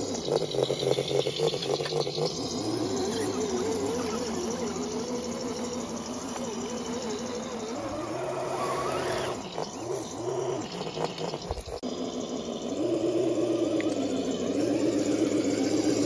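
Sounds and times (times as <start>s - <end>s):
toy car electric motor whine: 0.0s - 16.0s.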